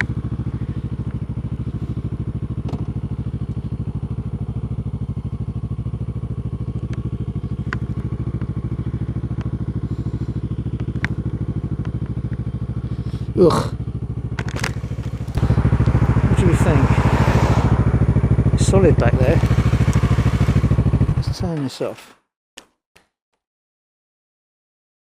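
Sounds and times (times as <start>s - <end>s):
motorcycle engine running: 0.0s - 21.6s.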